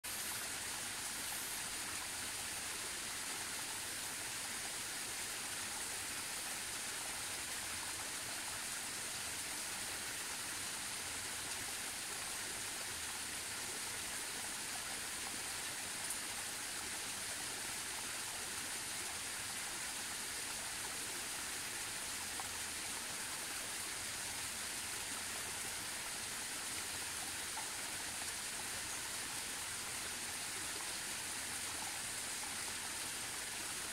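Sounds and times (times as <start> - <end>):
stream water rushing: 0.1 - 33.9.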